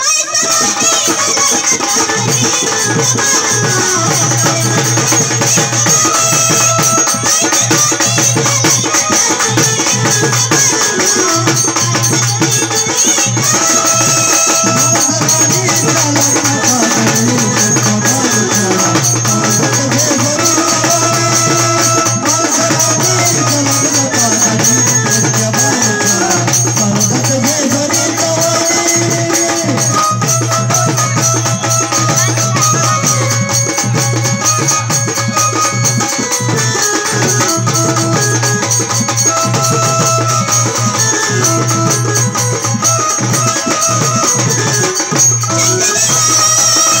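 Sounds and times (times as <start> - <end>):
jingling percussion: 0.0 - 47.0.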